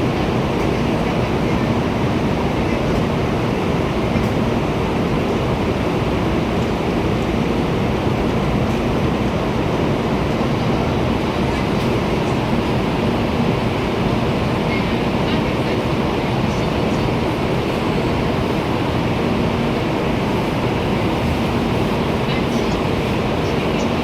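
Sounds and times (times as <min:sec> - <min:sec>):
train rumble and hiss: 0:00.0 - 0:24.0.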